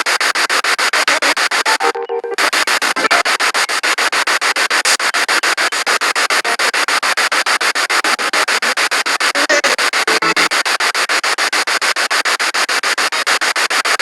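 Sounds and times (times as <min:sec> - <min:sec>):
pulsing radio static: 0:00.0 - 0:11.2.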